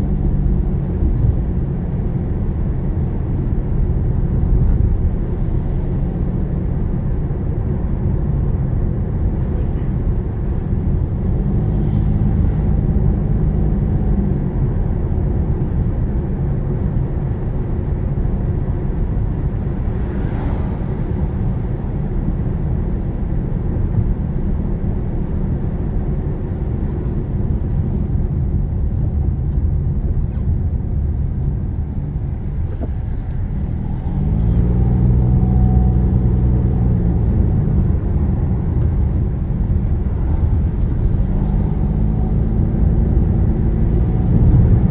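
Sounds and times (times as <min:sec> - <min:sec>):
car engine: 0:00.0 - 0:44.9
road rumble: 0:00.0 - 0:44.9.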